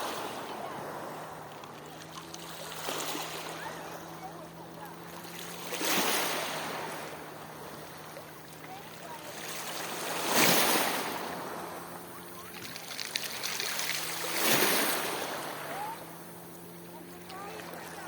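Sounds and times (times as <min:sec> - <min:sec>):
steady low hum: 0:00.0 - 0:18.0
waves breaking on shore: 0:00.0 - 0:18.0.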